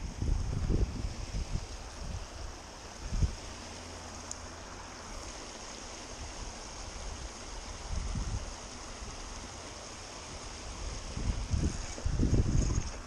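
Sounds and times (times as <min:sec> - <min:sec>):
water rushing over spillway: 0:00.0 - 0:13.0.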